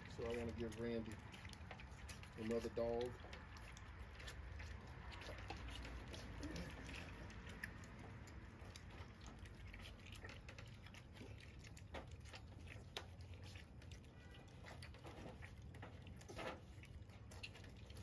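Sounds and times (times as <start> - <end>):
puppies lapping milk: 0.0 - 18.0.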